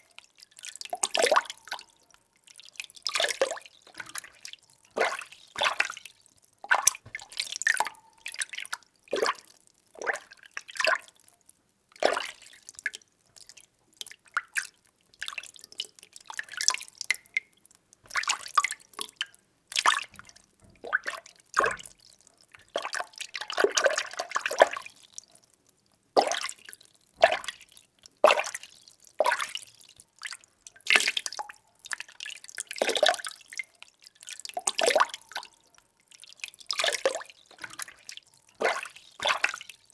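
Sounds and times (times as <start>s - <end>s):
water sloshing in a container: 0.0s - 11.2s, 11.9s - 25.5s, 26.1s - 39.9s.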